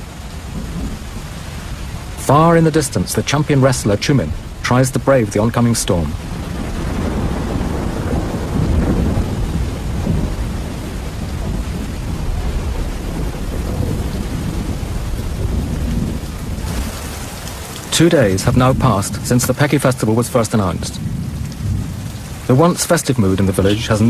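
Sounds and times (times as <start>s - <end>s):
heavy rain downpour: 0.0s - 24.0s
low rumble of thunder: 0.0s - 24.0s.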